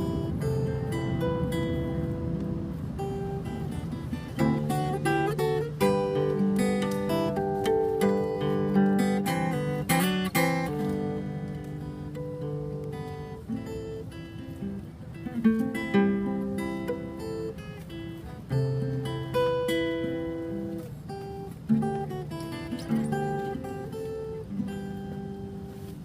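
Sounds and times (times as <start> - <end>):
fingerstyle acoustic guitar: 0.0 - 26.0.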